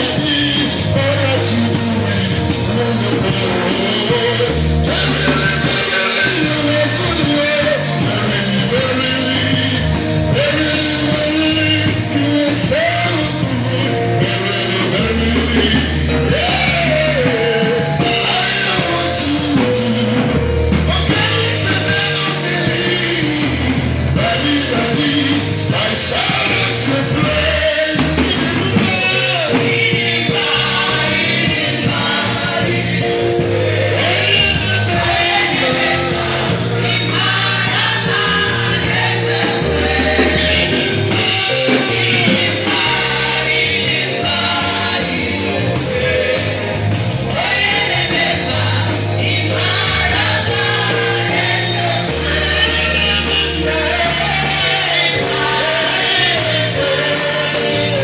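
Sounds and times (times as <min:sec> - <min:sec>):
band with bass: 0:00.0 - 0:58.0
voices singing gospel melody: 0:00.0 - 0:58.0.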